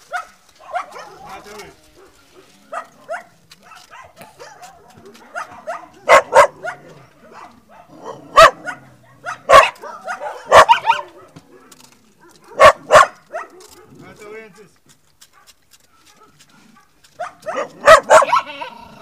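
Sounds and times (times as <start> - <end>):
dog barking: 0.0 - 18.8.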